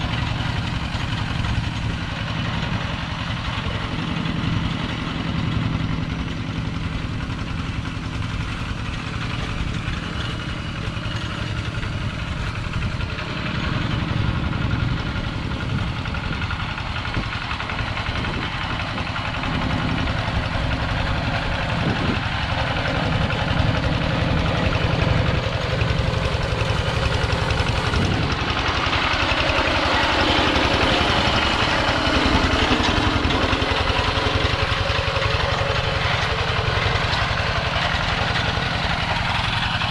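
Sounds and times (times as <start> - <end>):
tractor engine pulsing: 0.0 - 39.9.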